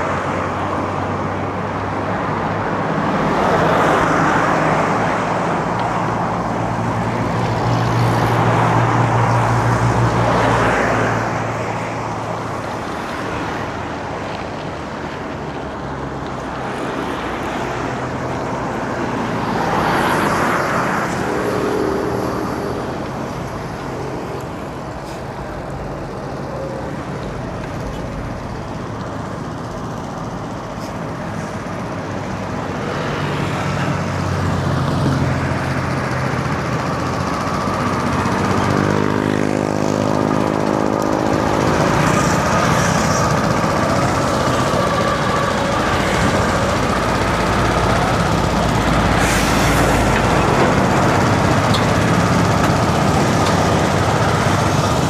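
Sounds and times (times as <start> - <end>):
road traffic hum: 0.0 - 55.0
vehicles passing: 0.0 - 55.0.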